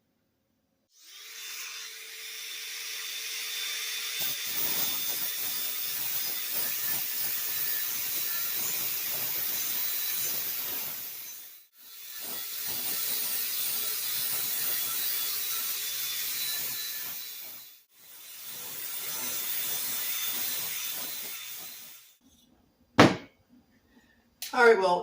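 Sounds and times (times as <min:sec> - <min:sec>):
power grinder rasping on steel: 0:00.9 - 0:22.2.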